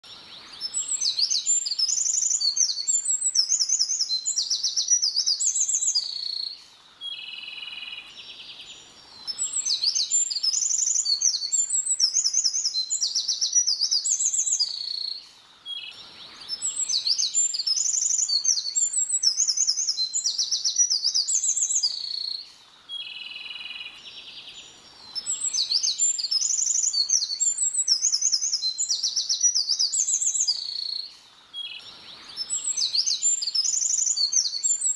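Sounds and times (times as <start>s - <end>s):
songbird whistling: 0.5s - 7.7s, 9.2s - 15.9s, 16.5s - 22.4s, 25.1s - 34.9s.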